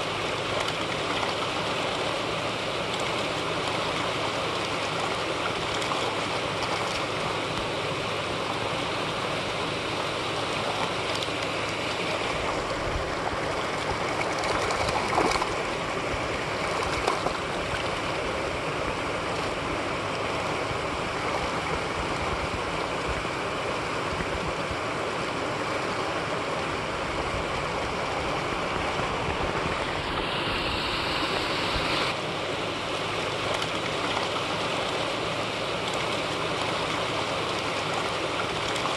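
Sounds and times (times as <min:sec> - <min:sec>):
water rushing down a spillway: 0:00.0 - 0:38.9.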